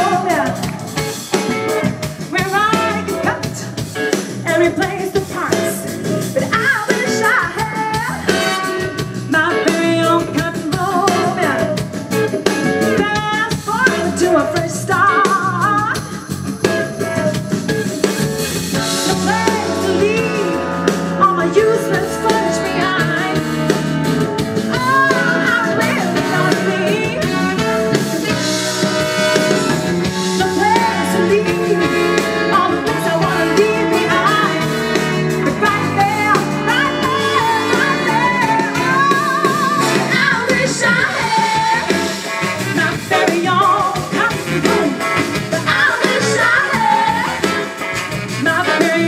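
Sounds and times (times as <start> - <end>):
horn section: 0.0 - 15.9, 16.5 - 49.0
drum kit: 0.0 - 49.0
electric guitar: 0.0 - 49.0
woman singing lead: 0.0 - 49.0.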